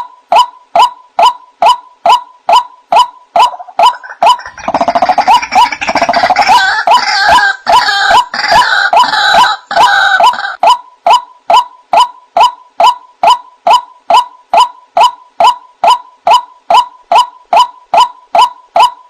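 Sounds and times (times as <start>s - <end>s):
waterhen calling: 3.4s - 19.0s.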